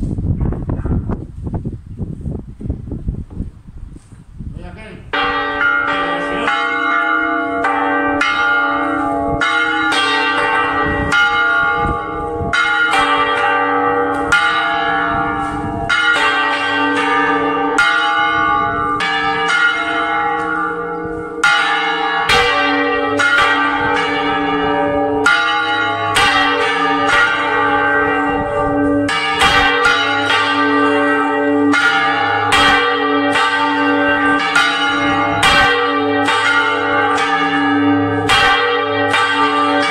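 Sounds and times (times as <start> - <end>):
swinging church bells ringing: 5.0 - 39.9.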